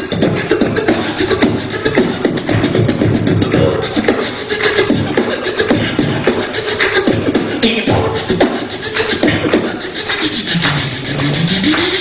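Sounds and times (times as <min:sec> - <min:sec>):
beatboxing: 0:00.0 - 0:12.0.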